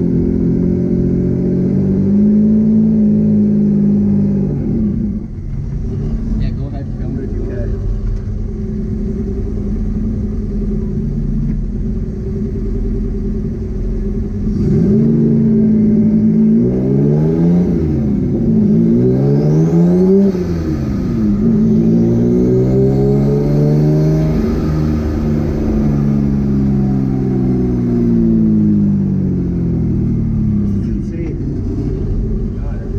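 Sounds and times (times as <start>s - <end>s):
car engines accelerating: 0.0s - 32.9s.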